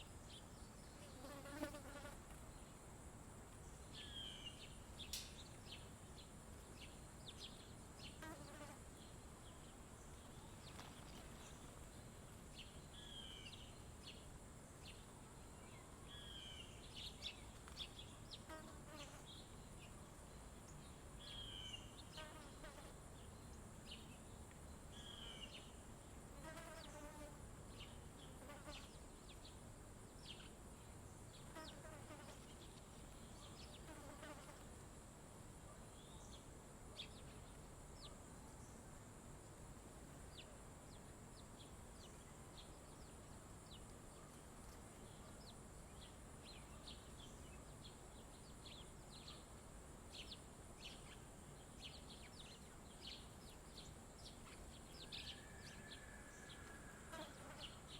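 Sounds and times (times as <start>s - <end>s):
songbirds chirping: 0.0s - 34.6s, 40.1s - 57.9s.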